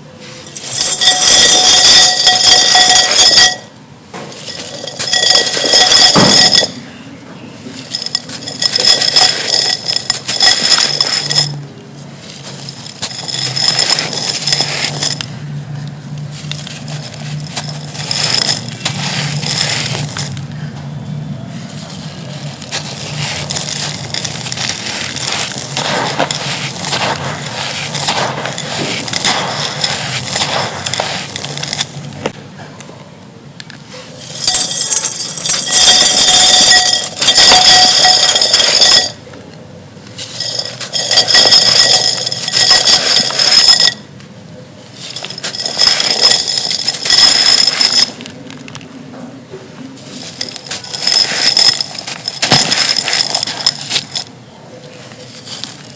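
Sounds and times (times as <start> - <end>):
clay pot pieces crumbling: 0.5 - 7.0, 7.6 - 15.3, 16.2 - 20.8, 21.7 - 32.4, 34.2 - 39.2, 40.1 - 44.1, 44.8 - 48.9, 50.0 - 54.3, 54.9 - 55.9.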